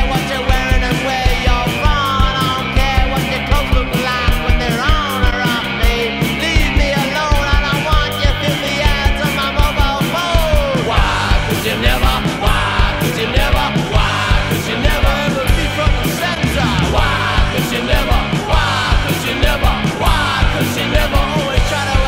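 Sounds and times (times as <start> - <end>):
punk rock music: 0.0 - 22.0.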